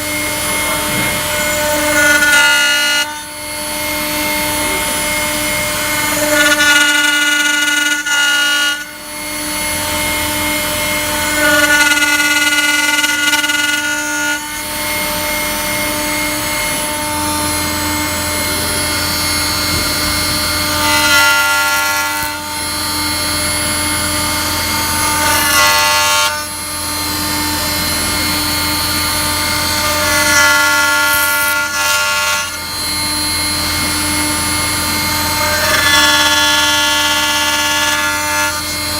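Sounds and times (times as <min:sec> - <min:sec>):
cutter whining through wood: 0:00.0 - 0:38.9
router spindle hum: 0:00.0 - 0:38.9.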